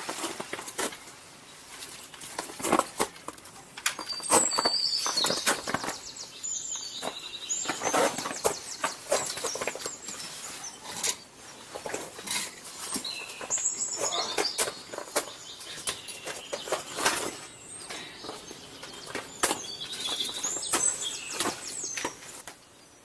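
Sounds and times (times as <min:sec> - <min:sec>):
small bird chirping: 0:03.9 - 0:23.0.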